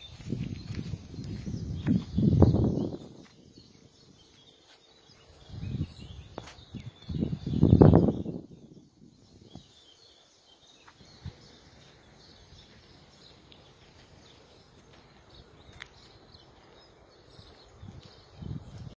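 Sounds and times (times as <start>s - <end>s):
distant birds chirping: 0.0s - 18.9s.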